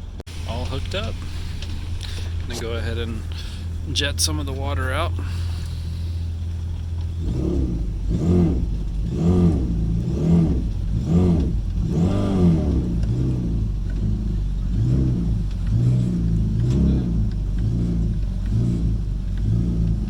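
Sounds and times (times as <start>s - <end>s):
boat engine revving: 0.0s - 20.0s.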